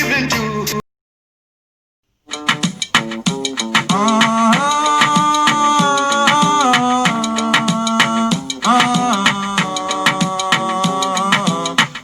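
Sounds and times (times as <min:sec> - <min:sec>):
background music with singing: 0:02.3 - 0:12.0.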